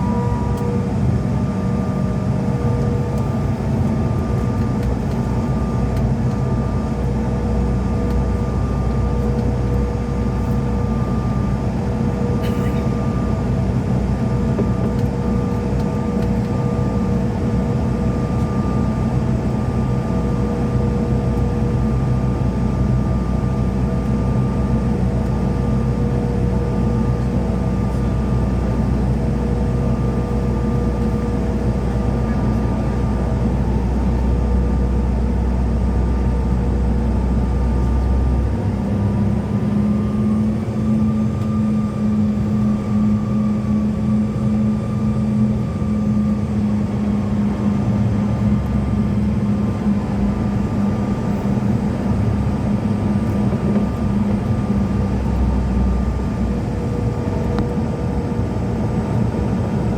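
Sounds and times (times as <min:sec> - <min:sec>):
jet engine drone: 0:00.0 - 0:59.9
steady whines: 0:00.0 - 0:59.9.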